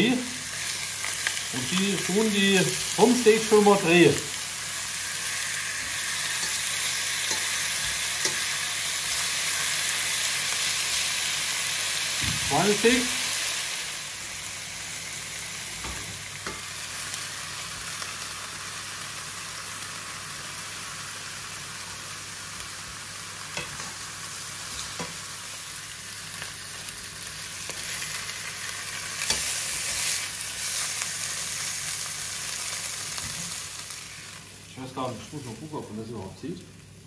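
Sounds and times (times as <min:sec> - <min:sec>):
steaks sizzling in frying pan: 0:00.0 - 0:37.0.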